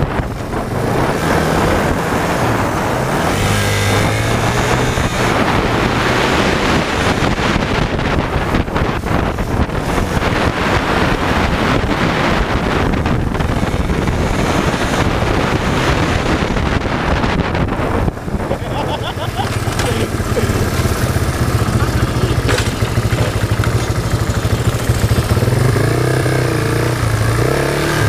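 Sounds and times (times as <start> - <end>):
dirt bike engine running: 0.0 - 28.0
wind buffeting microphone: 0.0 - 28.0.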